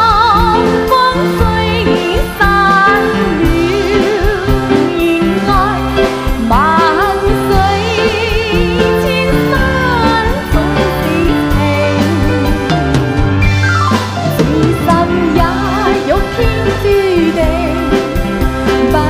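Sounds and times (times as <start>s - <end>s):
symphony orchestra playing: 0.0s - 19.0s.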